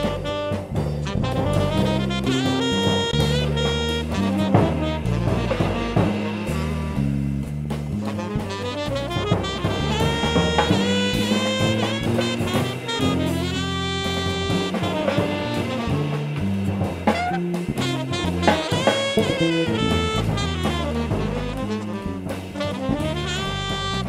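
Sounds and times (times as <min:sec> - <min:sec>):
saxophone melody: 0:00.0 - 0:07.3, 0:07.9 - 0:24.0
drum kit played with sticks: 0:00.0 - 0:24.0
electric bass: 0:00.0 - 0:24.0.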